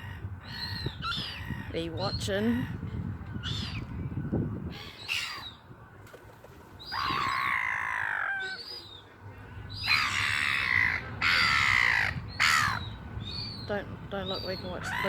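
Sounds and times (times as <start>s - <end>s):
seagulls calling: 0.0s - 15.0s.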